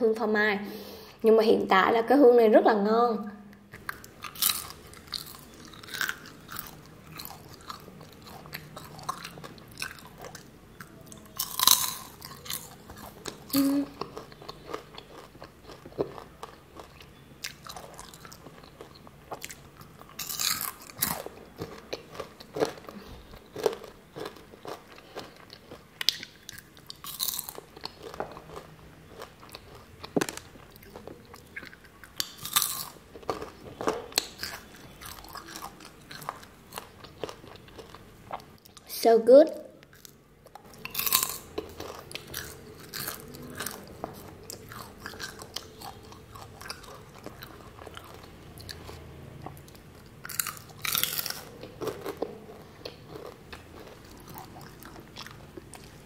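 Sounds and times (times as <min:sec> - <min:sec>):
chewing crunchy popcorn: 0:03.6 - 0:38.9, 0:39.8 - 0:56.0.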